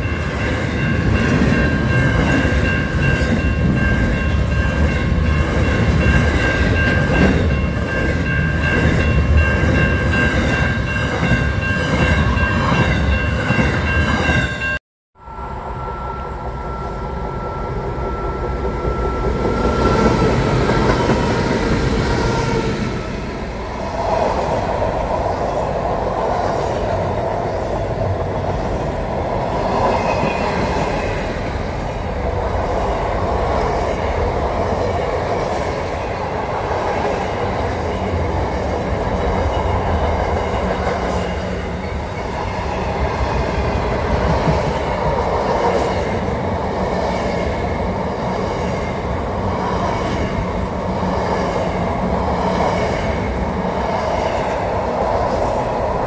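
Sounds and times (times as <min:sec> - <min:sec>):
steel wheels on rails: 0:00.0 - 0:56.0.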